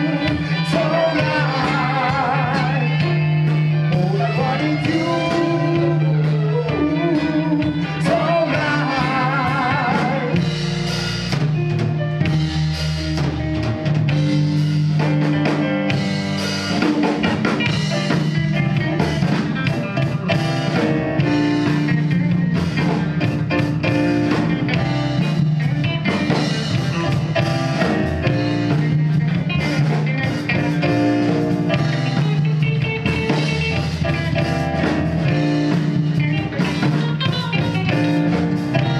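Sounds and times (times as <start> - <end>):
bass: 0.0 - 38.9
drum kit: 0.0 - 38.9
electric guitar: 0.0 - 38.9.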